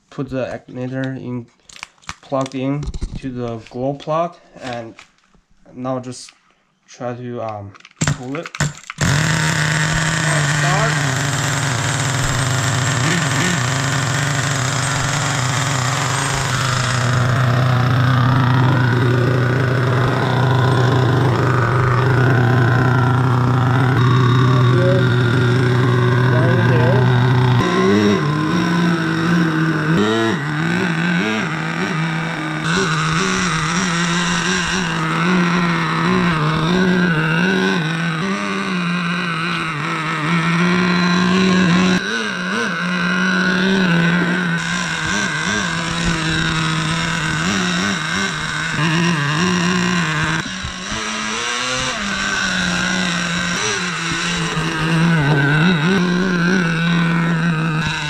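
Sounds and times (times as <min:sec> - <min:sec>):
small rc car engine running: 0:08.6 - 0:58.0.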